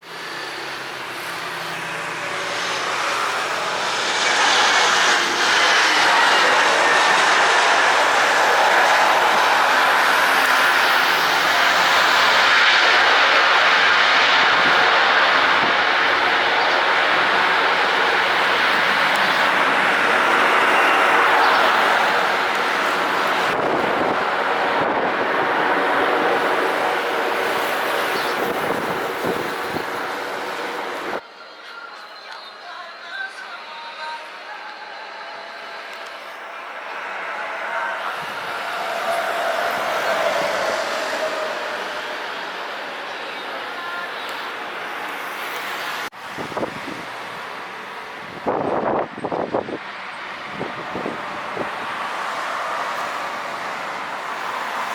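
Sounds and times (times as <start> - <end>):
jet engine roar: 0.0 - 31.2, 35.0 - 54.9.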